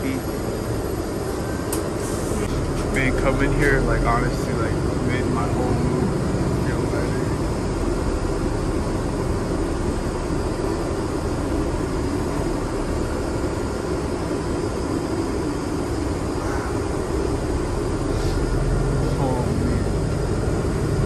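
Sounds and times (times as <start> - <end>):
vehicle low rumble: 0.0 - 21.0.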